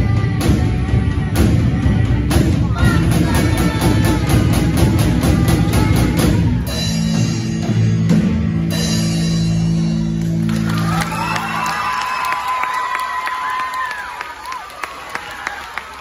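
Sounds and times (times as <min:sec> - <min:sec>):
drums playing fast beat: 0:00.0 - 0:13.8.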